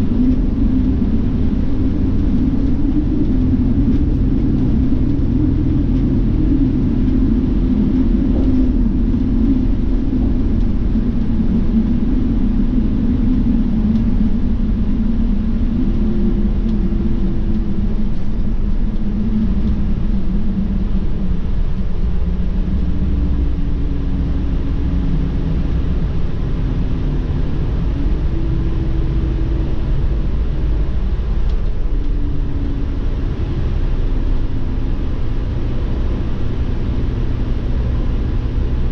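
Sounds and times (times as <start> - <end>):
bus road and engine rumble: 0.0 - 38.9.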